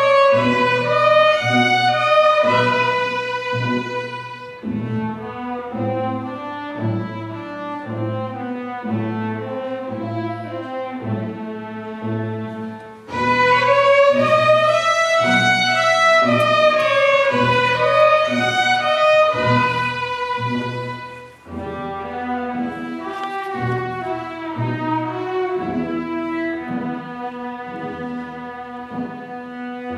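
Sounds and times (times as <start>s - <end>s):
string orchestra playing: 0.0s - 29.9s.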